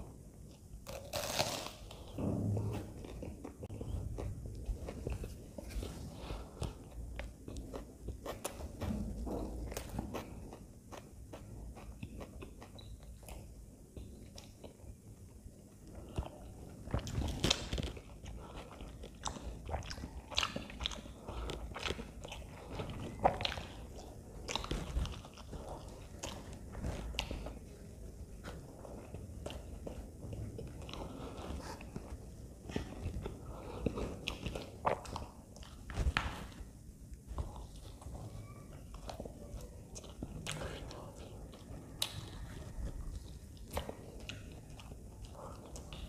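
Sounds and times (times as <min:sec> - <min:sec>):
mouth chewing food: 0:00.0 - 0:46.0.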